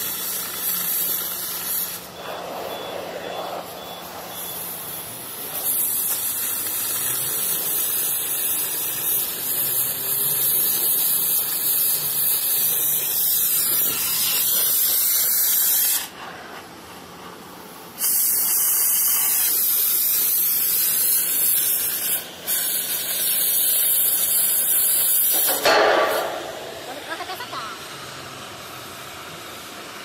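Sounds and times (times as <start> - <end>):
gas cutting torch hissing: 0.0 - 30.0.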